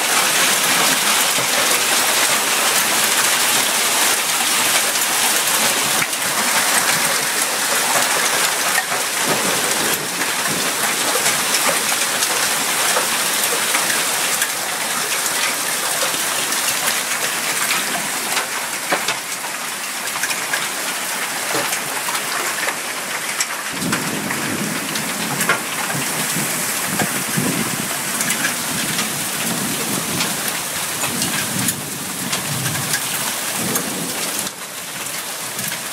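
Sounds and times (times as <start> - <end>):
hail and rain pounding down: 0.0 - 35.9.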